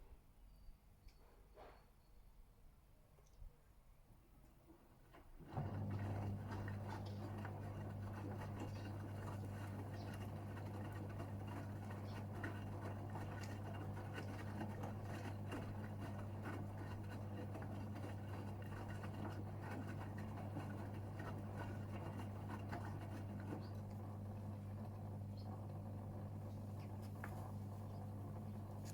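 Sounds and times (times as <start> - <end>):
washing machine drain pump humming: 5.0 - 28.9
water crackling through pump: 5.4 - 28.9.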